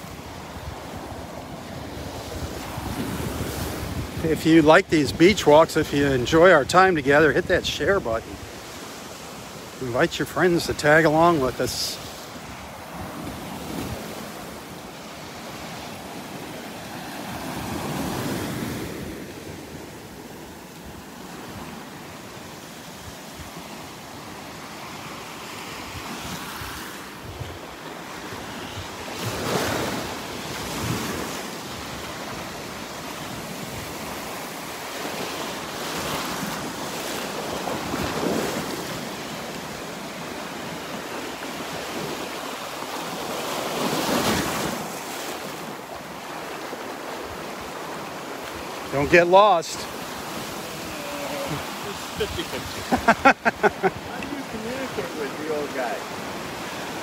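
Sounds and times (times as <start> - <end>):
small surf washing up a beach: 0.0 - 57.0.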